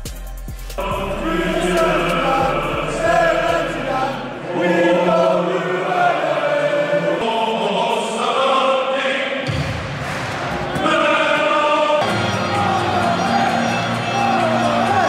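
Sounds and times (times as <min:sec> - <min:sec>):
football crowd chanting: 0:00.8 - 0:15.0.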